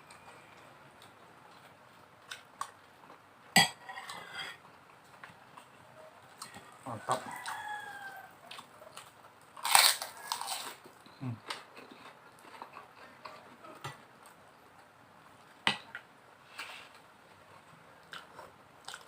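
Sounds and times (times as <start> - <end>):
crunching fried crackers: 0.1 - 3.3, 4.6 - 14.9, 15.9 - 19.0.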